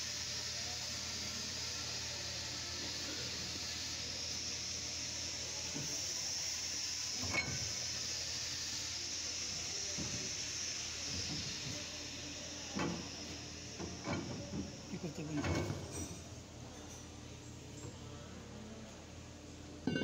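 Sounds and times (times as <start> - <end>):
steady hiss: 0.0 - 16.4.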